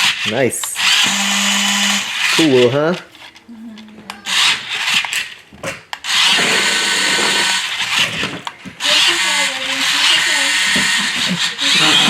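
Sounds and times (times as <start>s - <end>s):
toy car electric motors whining: 0.0s - 12.0s.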